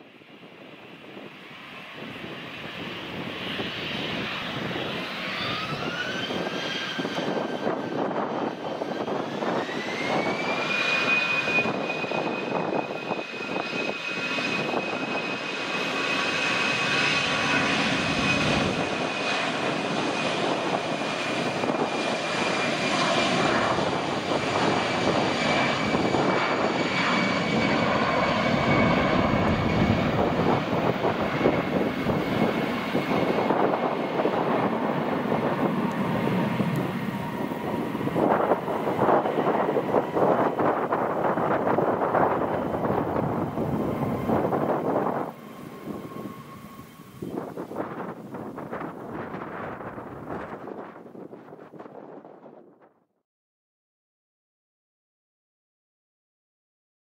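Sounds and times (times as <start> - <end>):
jet engine whine climbing: 0.0 - 53.0
jet roar: 0.1 - 52.8.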